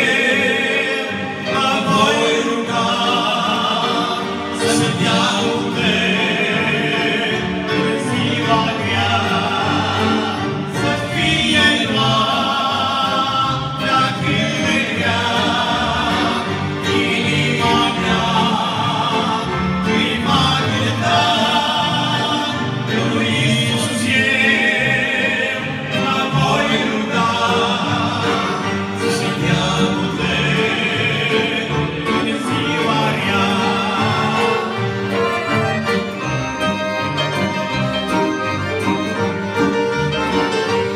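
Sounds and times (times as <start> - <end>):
accordion: 0.0 - 40.9
keyboard: 0.0 - 40.9
voices singing gospel song: 0.0 - 40.9.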